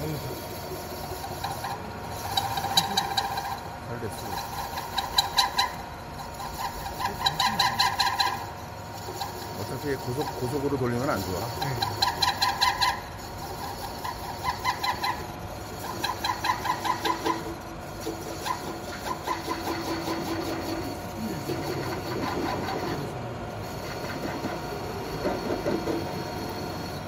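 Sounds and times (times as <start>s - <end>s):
lathe machine running: 0.0s - 27.0s
lathe tool squealing: 0.0s - 27.0s.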